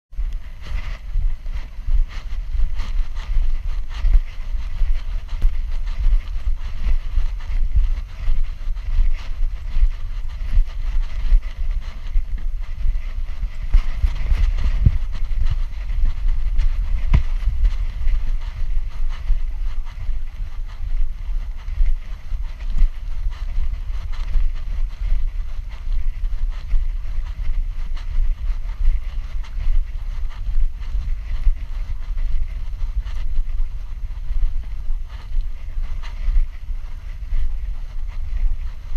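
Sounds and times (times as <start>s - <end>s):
wind buffeting camera: 0.1s - 38.9s
faint scuffs and clicks: 0.2s - 38.9s.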